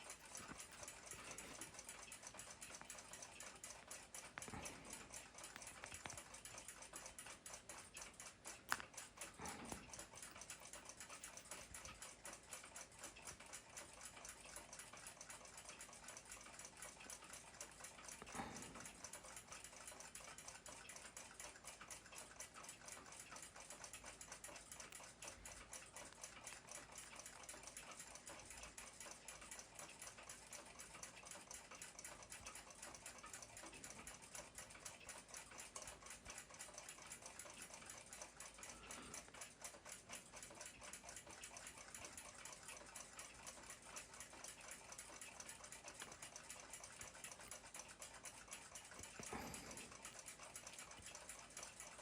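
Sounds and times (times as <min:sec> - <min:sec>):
clock ticking: 0:00.0 - 0:52.0.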